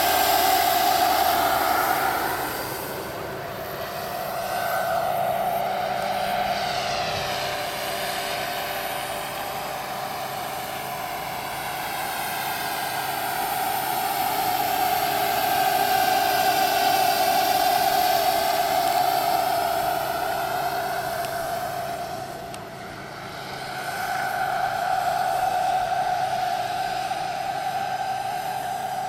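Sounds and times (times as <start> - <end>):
helicopter rotor: 0.0 - 29.0
turbine whine: 0.0 - 29.0.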